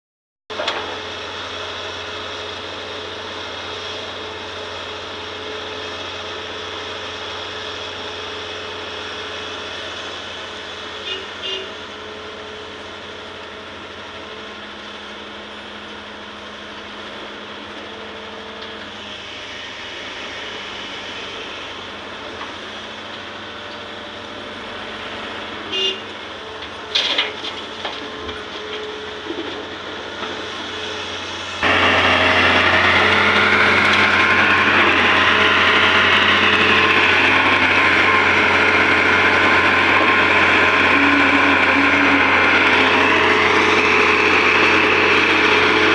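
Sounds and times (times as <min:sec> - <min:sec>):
excavator engine and hydraulics: 0:00.5 - 0:45.9.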